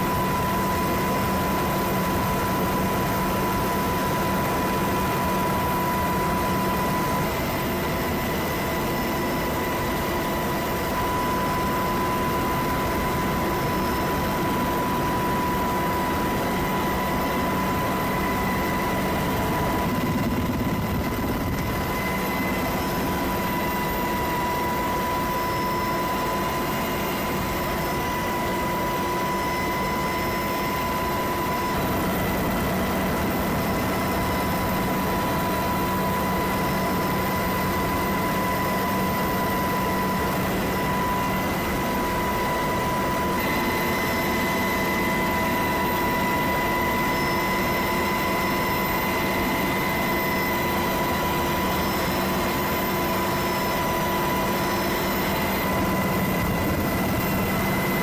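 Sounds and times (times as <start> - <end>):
helicopter rotor and turbine drone: 0.0 - 58.0
high turbine whine: 0.0 - 58.0.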